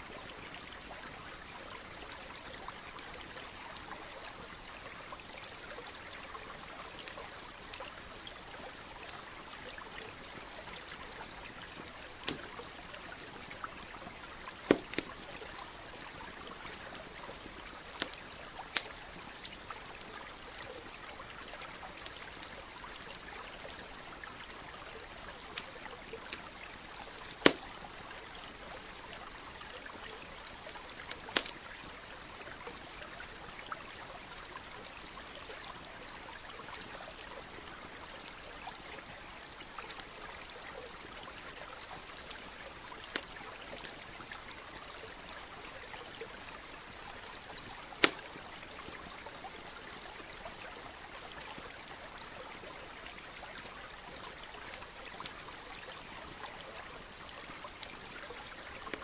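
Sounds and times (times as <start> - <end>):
campfire crackling: 0.0 - 59.0
stream running: 0.0 - 59.0.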